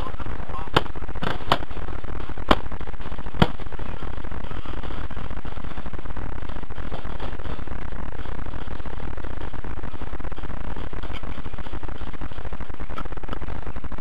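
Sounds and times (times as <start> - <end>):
electrical buzz: 0.0 - 14.0.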